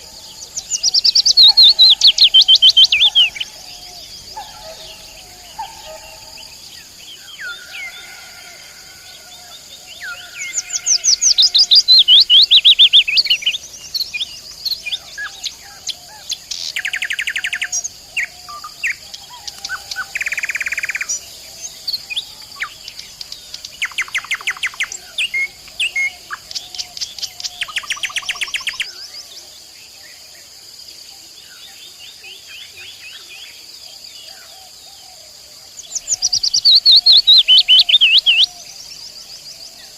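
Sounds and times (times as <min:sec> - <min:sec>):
insect trilling: 0:00.0 - 0:29.1, 0:35.8 - 0:39.9
nightingale singing: 0:00.0 - 0:30.5, 0:31.2 - 0:39.9.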